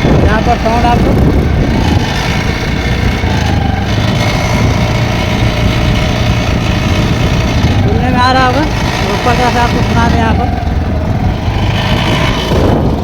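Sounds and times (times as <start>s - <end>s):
exhaust parts knocking: 0.0s - 13.0s
scooter engine running: 0.0s - 13.0s.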